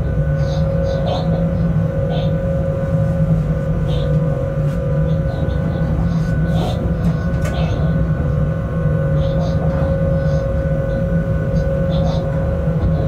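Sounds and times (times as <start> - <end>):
hum of held tones: 0.0 - 13.0
low locomotive rumble: 0.0 - 13.0.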